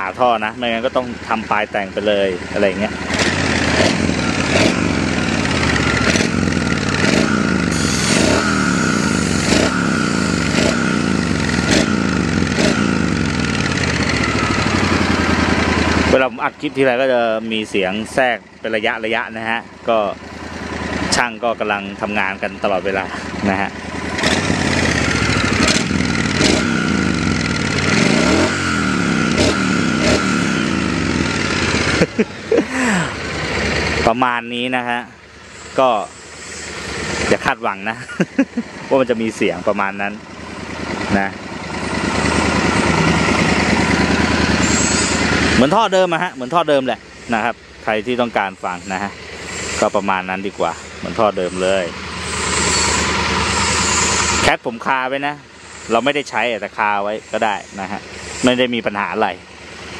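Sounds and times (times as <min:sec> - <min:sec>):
motorcycle exhaust note: 0:00.0 - 0:59.9.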